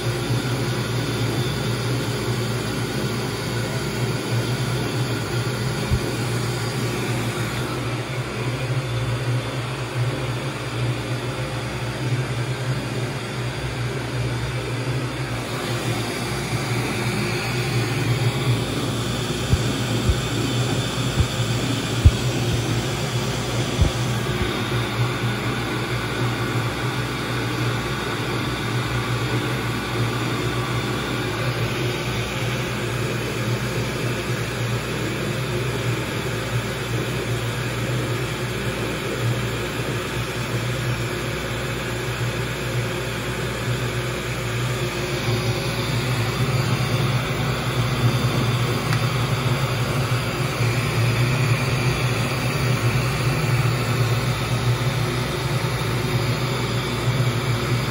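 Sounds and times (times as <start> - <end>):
laser cutter fans humming: 0.0 - 57.9.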